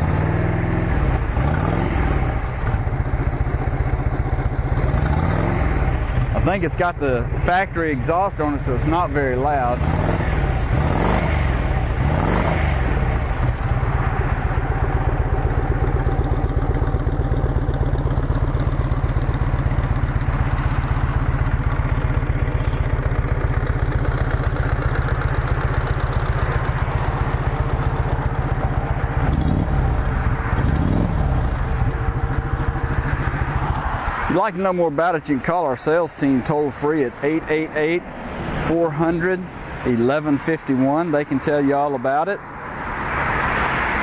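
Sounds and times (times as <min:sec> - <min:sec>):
motorcycle engine idling: 0:00.0 - 0:41.6.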